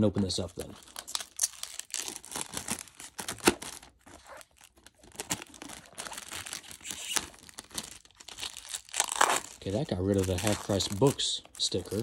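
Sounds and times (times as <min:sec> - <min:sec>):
plastic shrink wrap crinkling and tearing: 0:00.0 - 0:12.0.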